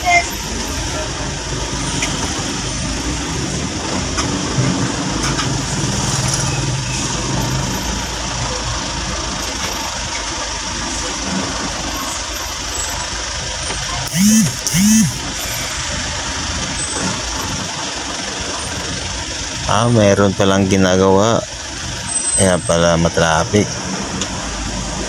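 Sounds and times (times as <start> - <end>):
deep engine hum: 0.0 - 22.1
traffic engines idling: 0.0 - 25.0.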